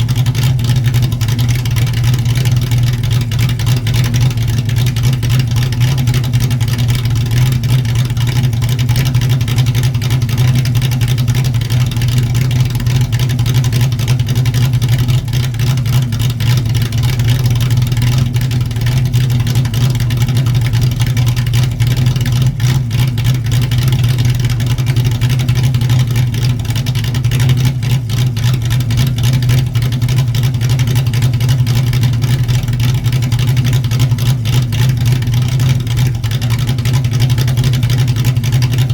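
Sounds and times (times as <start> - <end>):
car exhaust idling: 0.0 - 38.9.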